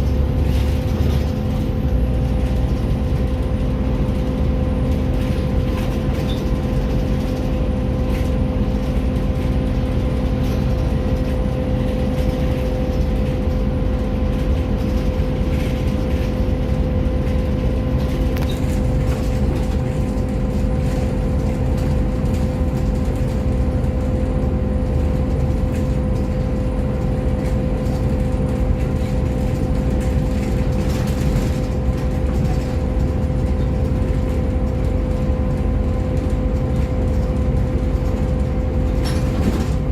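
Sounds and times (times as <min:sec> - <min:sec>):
bus engine humming and whining: 0:00.0 - 0:39.9.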